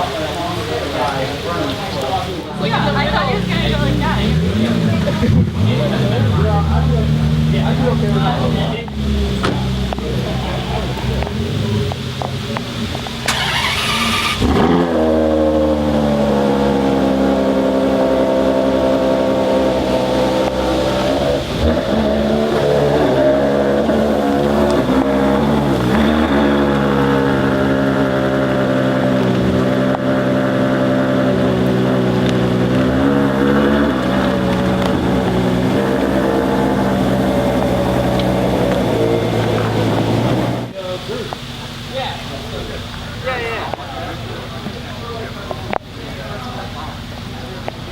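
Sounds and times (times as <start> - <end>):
car engine starting and idling: 0.0 - 47.9.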